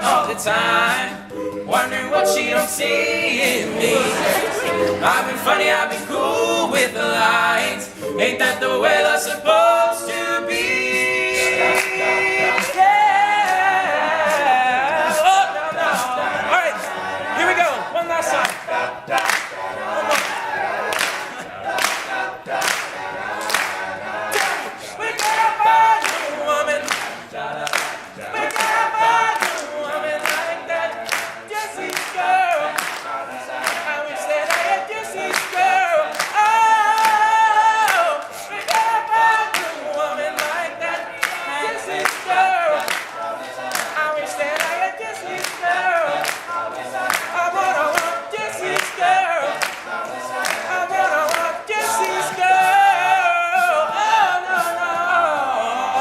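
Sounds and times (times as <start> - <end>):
male group singing in harmony: 0.0 - 56.0.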